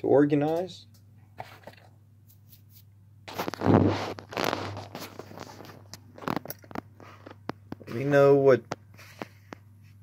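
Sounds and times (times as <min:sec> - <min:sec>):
rustling handling noise: 0:01.3 - 0:10.0.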